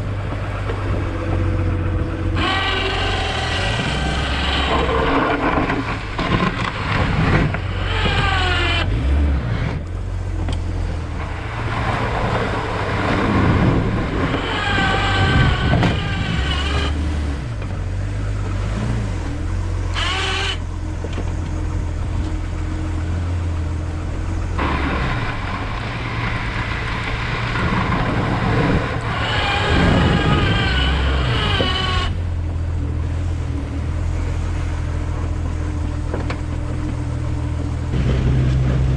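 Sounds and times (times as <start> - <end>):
engine running: 0.0 - 38.9
plow scraping snow: 0.0 - 38.9.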